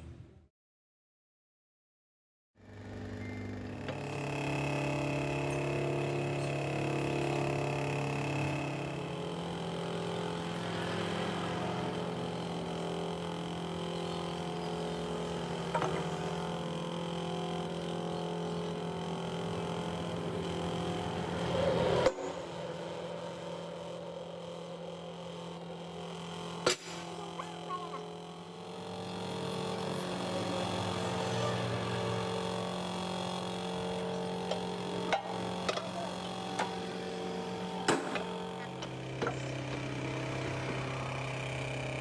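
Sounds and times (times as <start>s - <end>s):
hydraulic pump humming: 2.6s - 42.0s.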